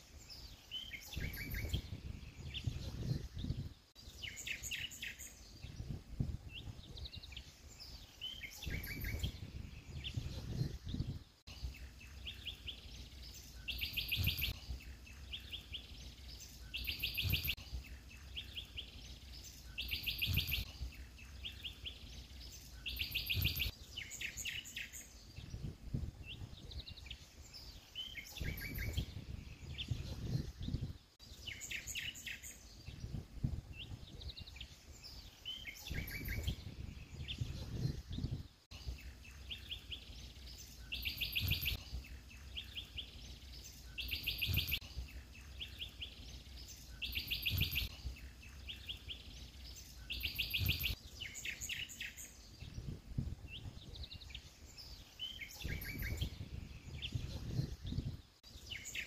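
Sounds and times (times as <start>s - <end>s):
bird chirps and calls: 0.1s - 59.0s.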